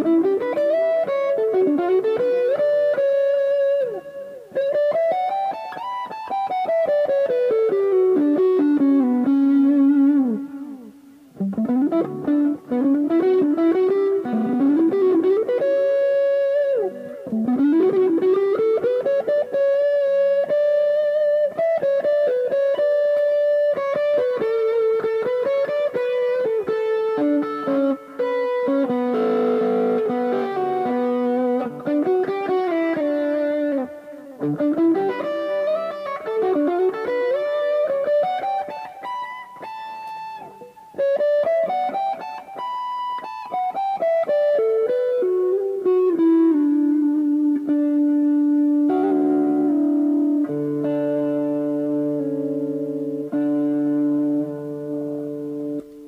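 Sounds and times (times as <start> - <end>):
electric guitar lead melody: 0.0 - 56.0.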